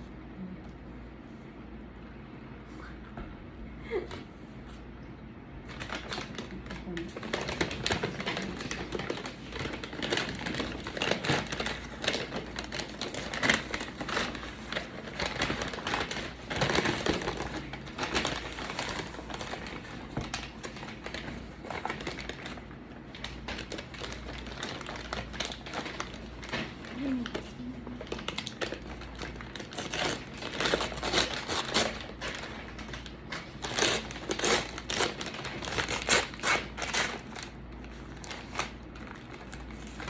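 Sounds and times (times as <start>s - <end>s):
packaging crinkling: 5.7s - 40.0s.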